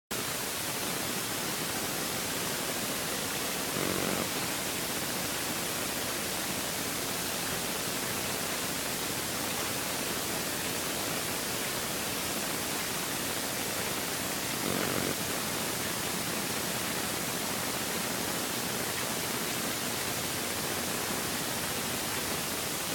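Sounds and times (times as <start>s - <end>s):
steady hiss: 0.2s - 22.9s.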